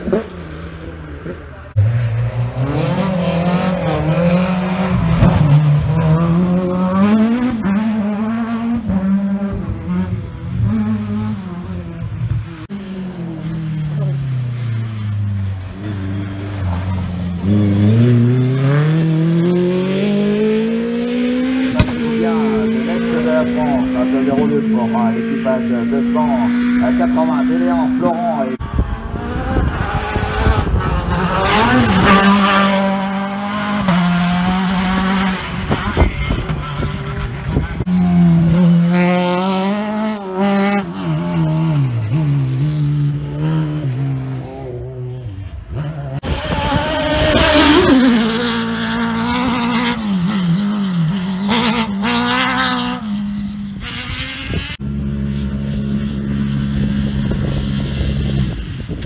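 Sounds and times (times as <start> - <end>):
rally cars at full throttle: 0.0 - 59.0.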